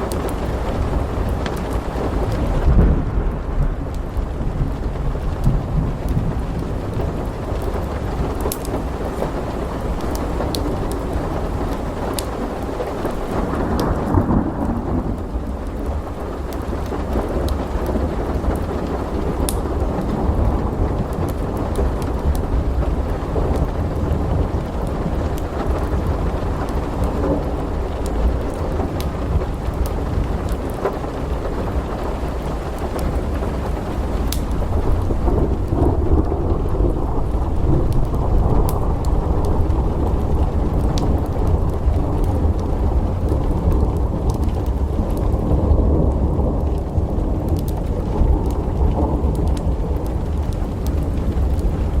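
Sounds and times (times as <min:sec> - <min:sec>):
low rumble of thunder: 0:00.0 - 0:52.0
steady rain: 0:00.0 - 0:52.0
wood fire crackling: 0:00.0 - 0:52.0.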